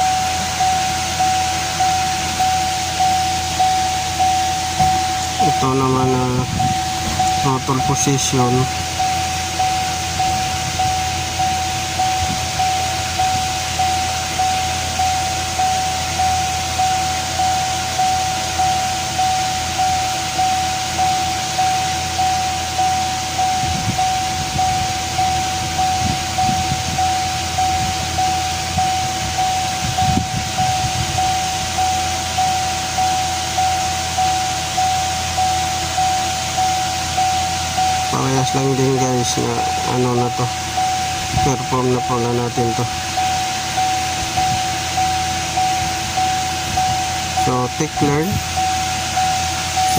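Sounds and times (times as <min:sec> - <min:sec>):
electronic warning chime: 0:00.0 - 0:49.9.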